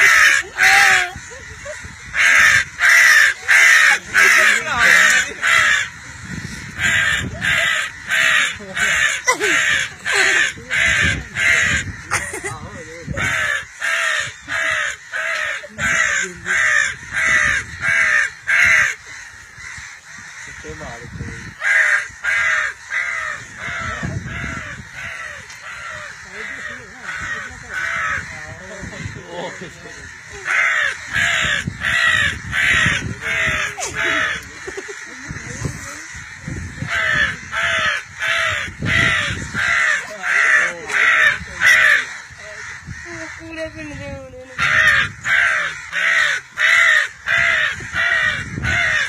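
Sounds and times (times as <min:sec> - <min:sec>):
man imitating crow caws: 0:00.0 - 0:19.0, 0:20.2 - 0:43.2, 0:44.5 - 0:49.0.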